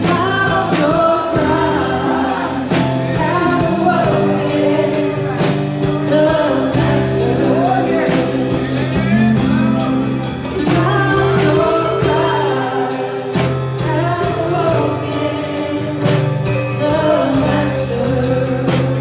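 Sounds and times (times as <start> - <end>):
drum beat: 0.0 - 19.0
live worship band: 0.0 - 19.0
person singing: 0.0 - 19.0.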